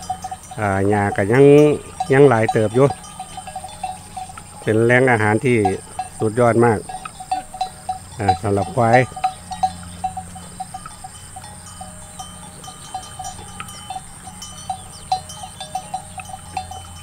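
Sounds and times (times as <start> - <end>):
animal bell clinking: 0.0 - 17.0.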